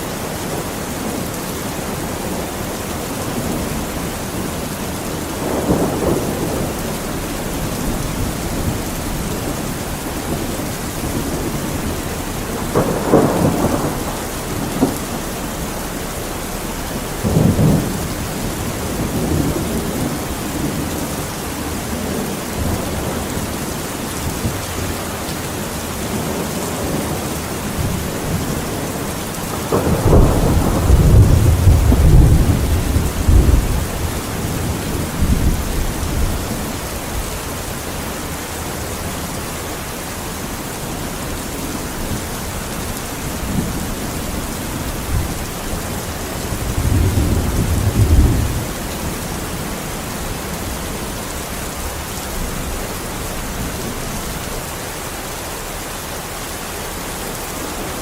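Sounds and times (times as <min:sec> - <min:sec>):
thunder rumbling: 0:00.0 - 0:38.1, 0:38.7 - 0:54.7
steady rain: 0:00.0 - 0:58.0.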